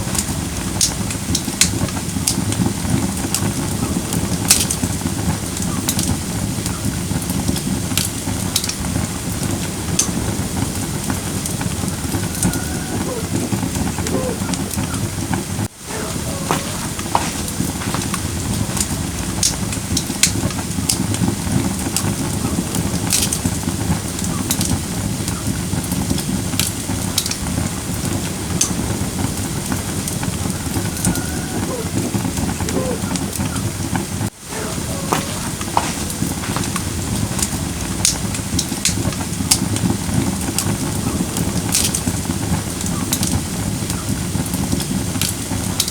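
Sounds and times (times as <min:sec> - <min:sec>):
fire crackling and popping: 0:00.0 - 0:45.9
low rush of flame: 0:00.0 - 0:45.9.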